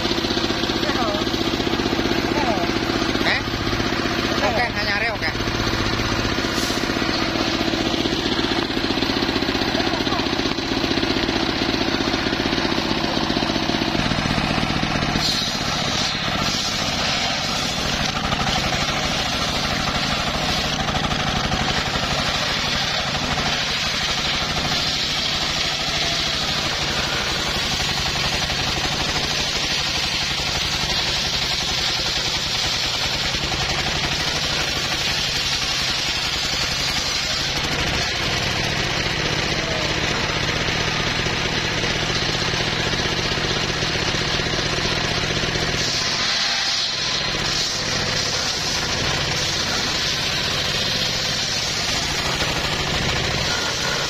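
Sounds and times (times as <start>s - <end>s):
engine running under load: 0.0s - 54.0s
saw blade hissing through wood: 5.4s - 9.7s, 10.7s - 54.0s.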